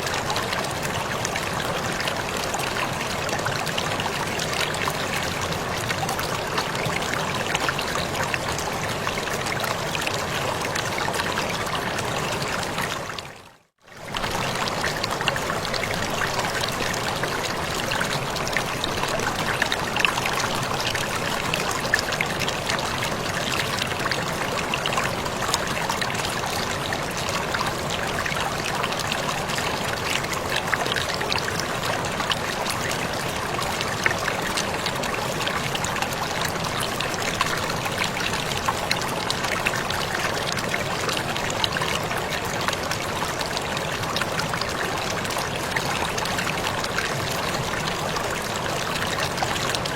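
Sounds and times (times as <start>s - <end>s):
small waterfall splashing: 0.0s - 49.9s.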